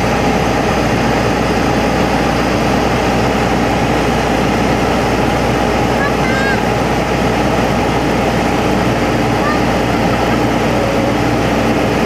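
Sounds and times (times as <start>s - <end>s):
aircraft engine and airflow noise: 0.0s - 12.0s
mid-pitched hum: 0.0s - 12.0s.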